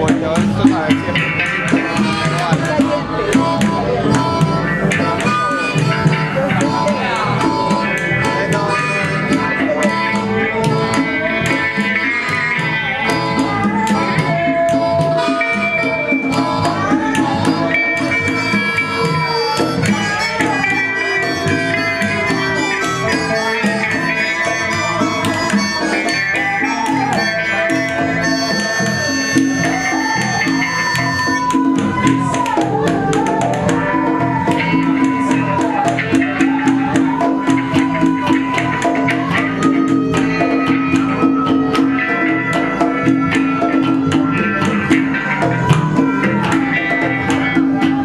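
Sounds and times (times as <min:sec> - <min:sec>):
blues-rock band playing: 0:00.0 - 0:48.0
congas and hand percussion: 0:00.0 - 0:48.0
harmonica long notes: 0:00.0 - 0:48.0.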